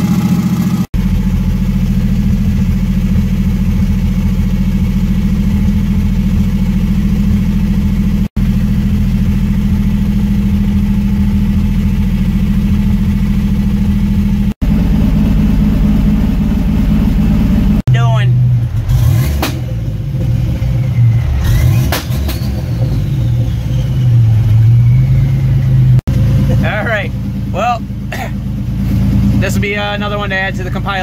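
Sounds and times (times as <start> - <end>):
car engine running with misfire: 0.0 - 20.3, 21.2 - 31.0.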